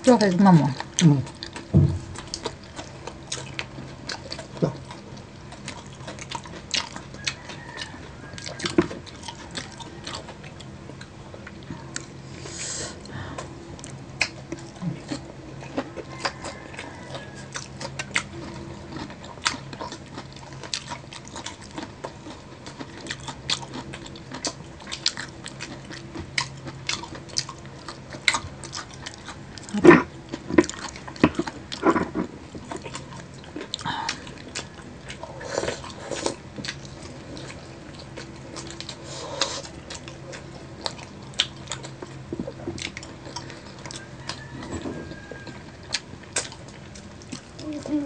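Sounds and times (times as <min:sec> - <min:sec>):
crunchy eating and chewing: 0:00.0 - 0:48.0.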